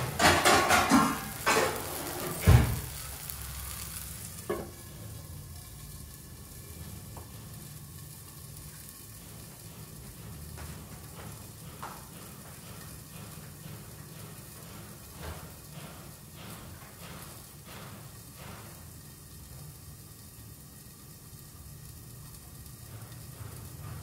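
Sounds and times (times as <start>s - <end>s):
gravy sizzling in a pan: 0.0s - 24.0s.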